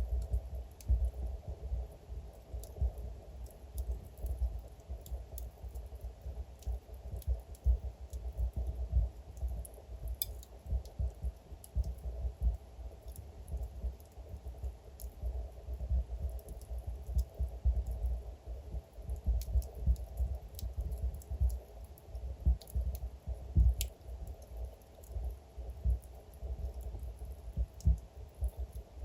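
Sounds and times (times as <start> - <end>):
low rumble of burning logs: 0.0 - 29.0
wood fire crackling and popping: 0.0 - 29.0.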